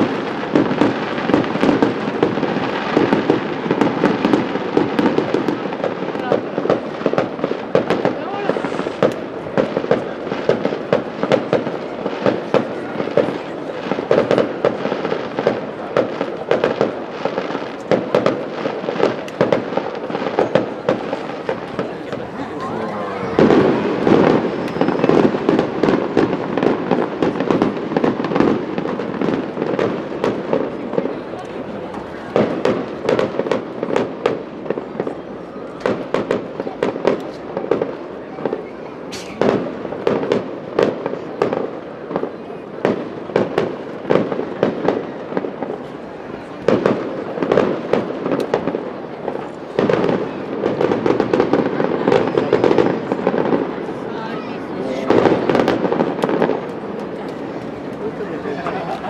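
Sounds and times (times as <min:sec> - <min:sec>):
fireworks popping and crackling: 0:00.0 - 0:59.0.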